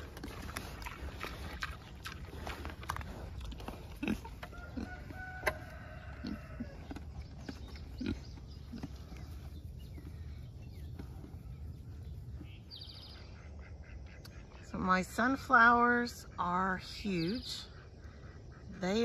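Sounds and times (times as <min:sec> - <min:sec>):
farm animals calling: 0:00.0 - 0:19.0.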